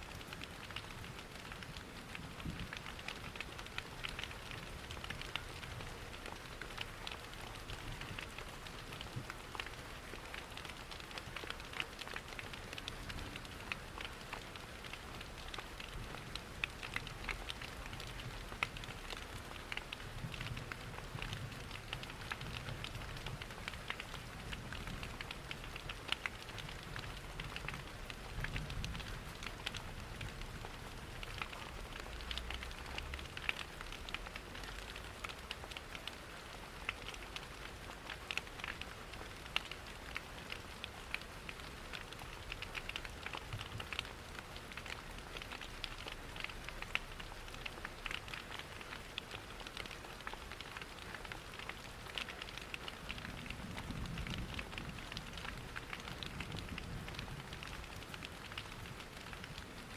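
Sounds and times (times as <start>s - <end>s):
rain pattering: 0.0s - 59.9s
wood fire crackling: 0.1s - 59.9s.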